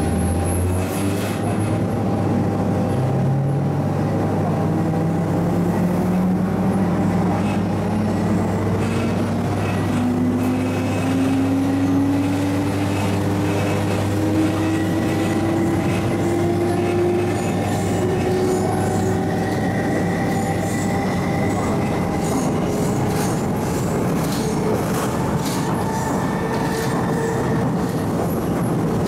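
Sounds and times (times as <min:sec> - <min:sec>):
wheels rumbling on track: 0:00.0 - 0:29.0
train traction motors whining: 0:04.2 - 0:29.0.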